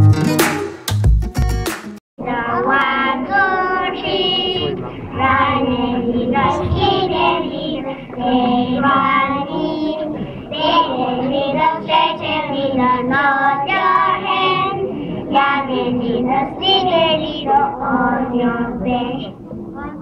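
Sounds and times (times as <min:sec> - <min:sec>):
children singing: 0:02.2 - 0:20.0.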